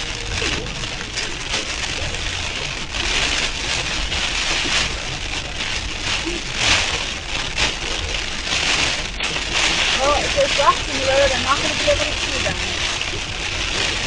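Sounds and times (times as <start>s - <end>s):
rain beating on a car: 0.0s - 14.0s
road and engine rumble: 0.0s - 14.0s.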